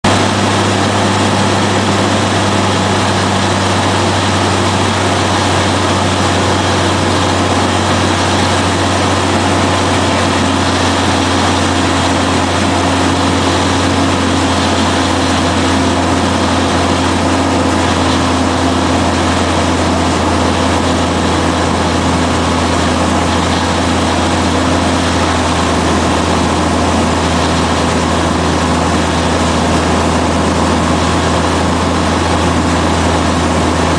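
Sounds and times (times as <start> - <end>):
airplane engine drone in flight: 0.0 - 33.9.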